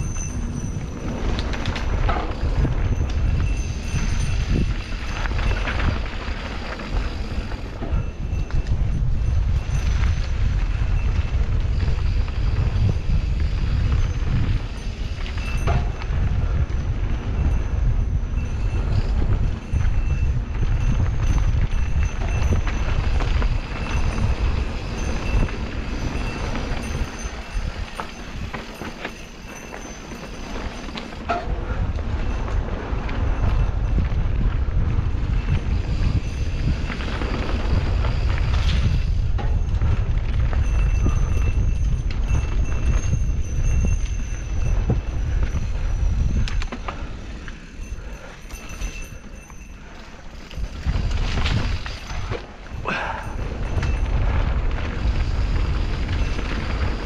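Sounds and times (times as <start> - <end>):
tyres running over dirt: 0.0 - 57.0
wind buffeting microphone: 0.0 - 57.0
bike rattling clicks: 0.1 - 17.9, 20.3 - 57.0.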